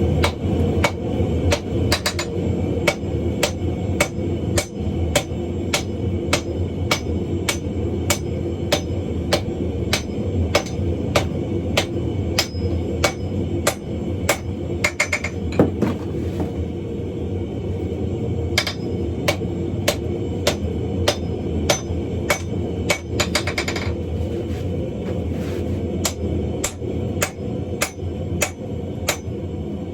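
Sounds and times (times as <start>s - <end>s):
hammer striking steel on anvil: 0.2s - 15.9s, 18.6s - 24.0s, 26.0s - 29.4s.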